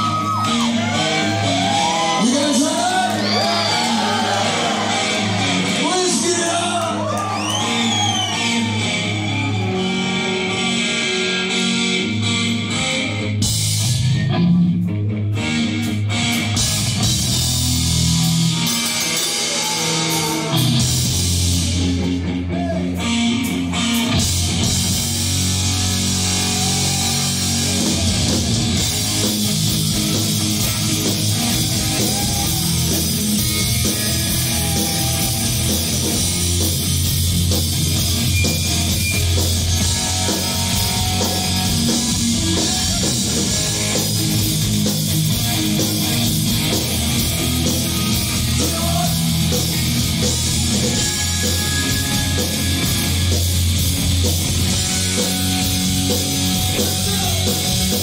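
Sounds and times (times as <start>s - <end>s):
heavy metal band playing: 0.0s - 58.0s.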